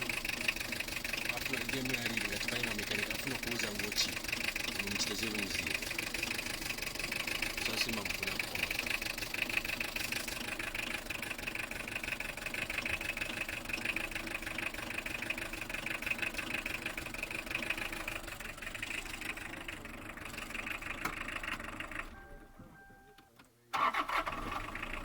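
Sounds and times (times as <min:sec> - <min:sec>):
diesel engine idling roughly: 0:00.0 - 0:22.2, 0:23.8 - 0:25.0.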